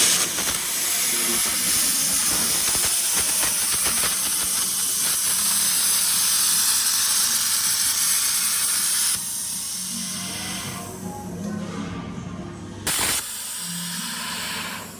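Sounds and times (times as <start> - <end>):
plasma cutter hissing and crackling: 0.0 - 10.9, 12.9 - 14.9.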